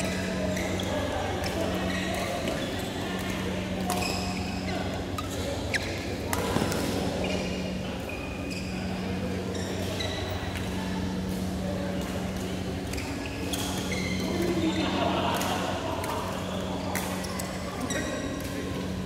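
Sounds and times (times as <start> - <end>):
shoes squeaking on court floor: 0.0 - 14.8, 16.3 - 19.0.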